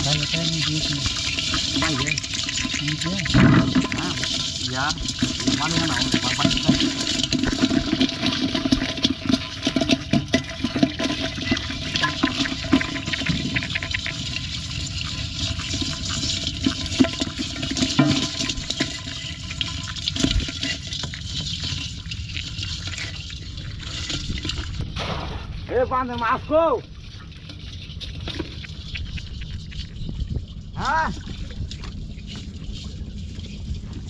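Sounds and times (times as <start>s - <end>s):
fish thrashing and splashing in water: 0.0s - 34.0s.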